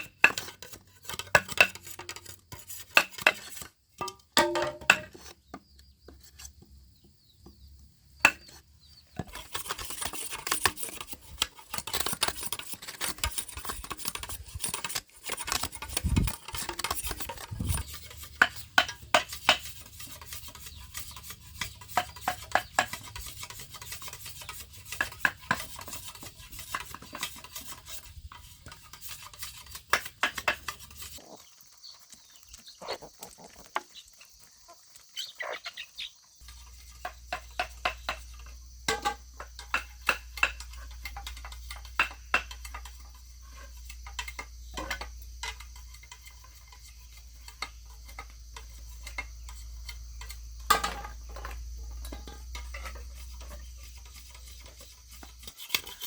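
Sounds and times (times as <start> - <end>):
knocks clicks and scraping: 0.0 - 6.7, 8.2 - 31.2, 36.4 - 56.0.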